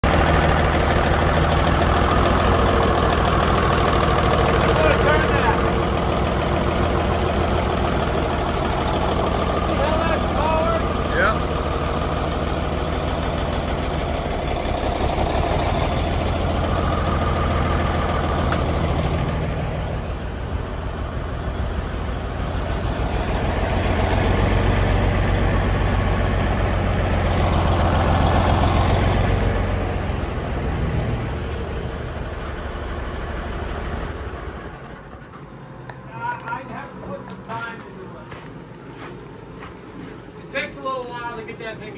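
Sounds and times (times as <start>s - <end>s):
large stationary engine running: 0.0s - 41.9s.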